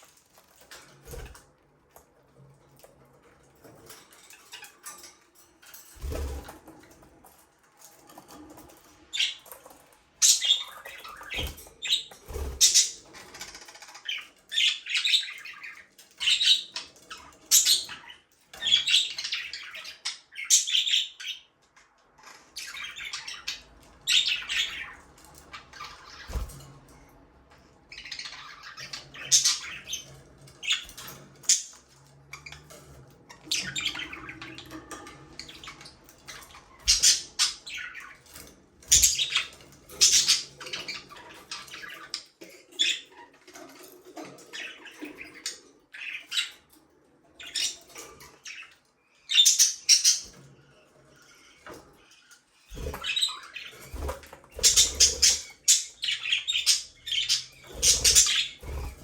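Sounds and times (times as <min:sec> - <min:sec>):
budgerigars chirping and squawking: 0:05.9 - 0:21.5, 0:22.2 - 0:59.0.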